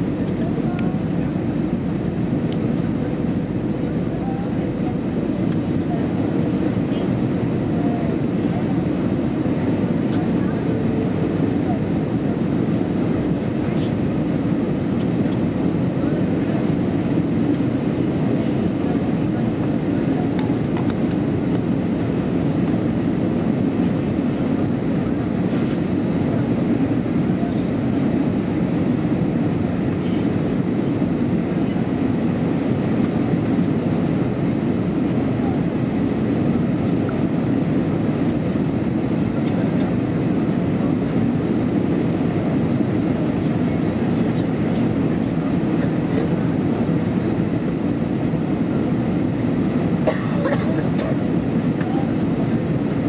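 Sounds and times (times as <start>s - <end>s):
airplane cabin low rumble: 0.0s - 53.0s.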